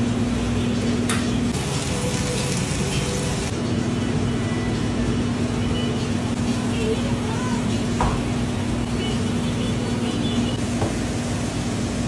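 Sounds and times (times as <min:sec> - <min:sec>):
mechanical drone with low hum: 0:00.0 - 0:12.0.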